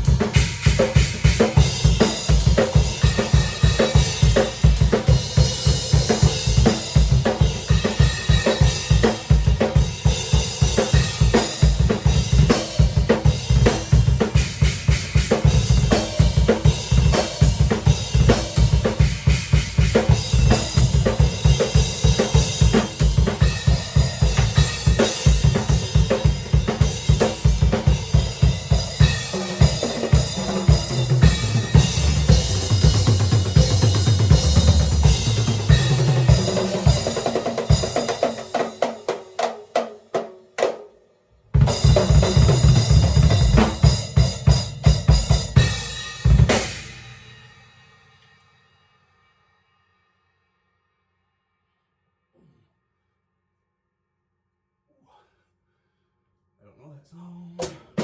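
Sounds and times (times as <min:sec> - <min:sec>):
drum kit played fast: 0:00.0 - 0:40.9, 0:41.5 - 0:48.3.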